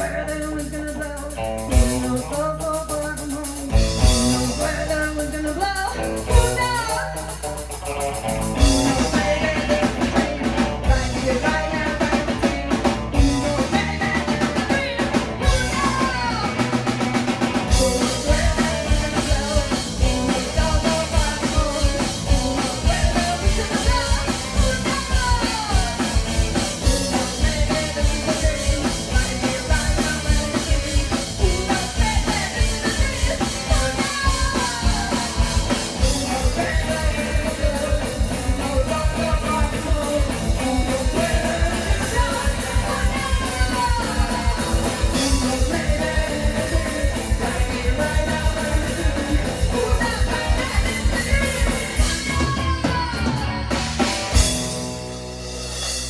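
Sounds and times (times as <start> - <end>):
person singing: 0.0 - 54.6
drum kit beat: 0.0 - 56.0.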